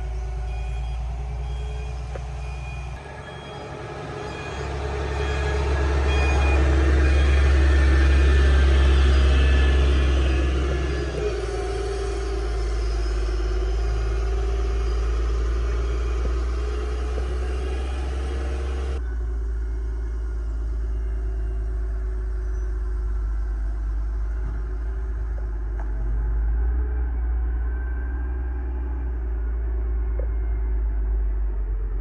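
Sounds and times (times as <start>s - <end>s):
excavator diesel engine humming: 0.0s - 32.0s.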